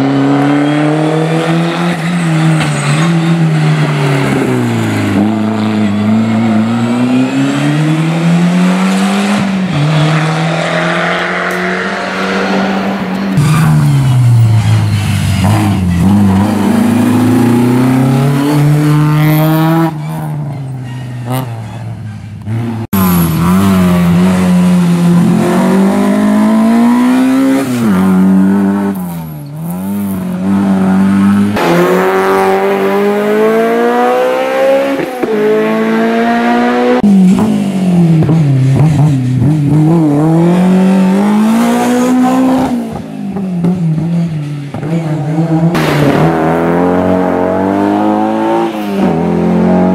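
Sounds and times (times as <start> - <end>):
rally car engines at full throttle: 0.0 - 49.9.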